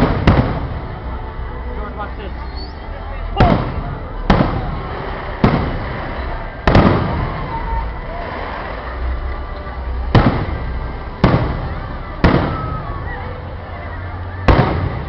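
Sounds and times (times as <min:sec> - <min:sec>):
fireworks bangs with rumbling echo: 0:00.0 - 0:15.0.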